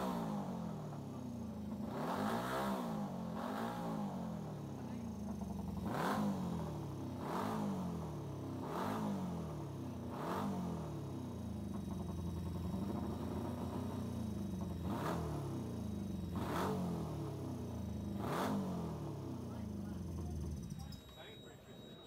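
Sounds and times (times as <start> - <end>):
motorcycle engine revving: 0.0 - 21.3
motorcycle engine idling: 0.0 - 22.0.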